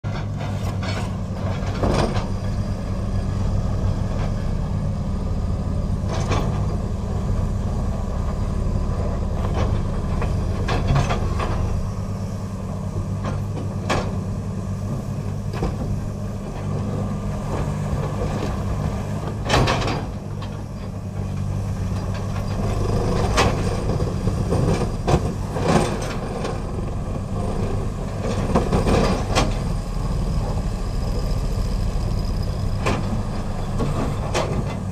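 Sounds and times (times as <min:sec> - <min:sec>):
diesel excavator engine running: 0:00.0 - 0:34.9.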